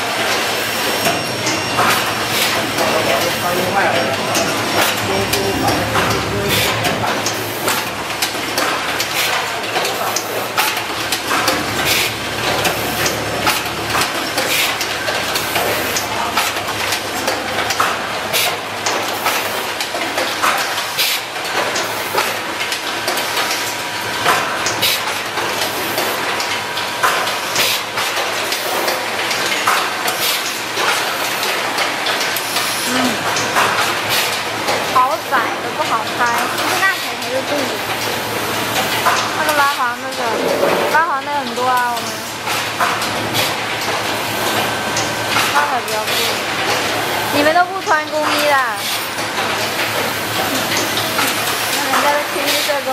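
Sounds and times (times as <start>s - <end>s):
steady mechanical hum: 0.0s - 52.9s.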